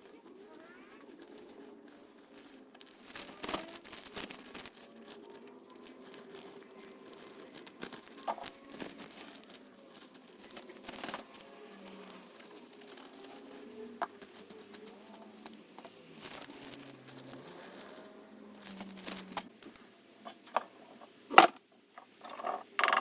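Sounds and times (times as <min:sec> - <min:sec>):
crinkling rustling handling: 0:00.0 - 0:23.0.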